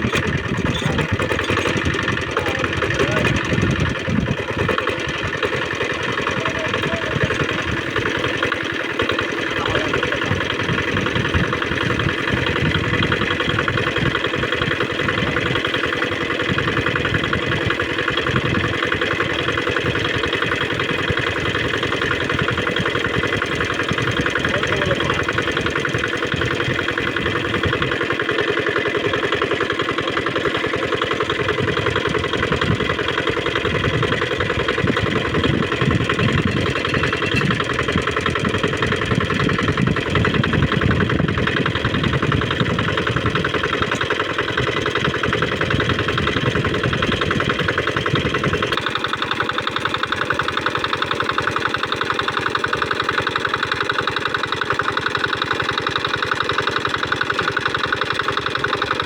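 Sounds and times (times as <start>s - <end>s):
diesel engine driving water pump: 0.0s - 59.0s.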